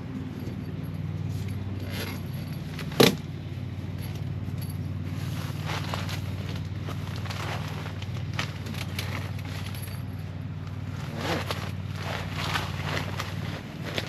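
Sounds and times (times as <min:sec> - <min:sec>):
gear rattling and scraping: 0:00.0 - 0:14.0
low mechanical hum: 0:00.0 - 0:14.0.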